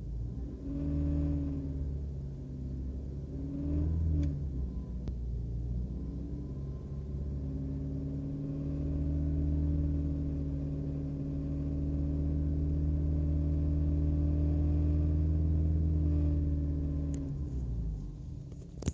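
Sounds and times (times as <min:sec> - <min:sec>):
car engine droning at raised revs: 0:00.0 - 0:18.2.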